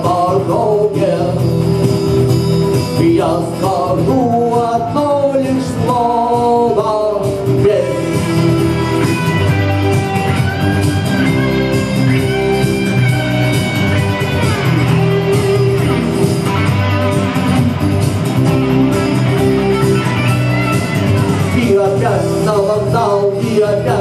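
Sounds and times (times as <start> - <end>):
instrumental rock music with guitar: 0.0 - 24.0.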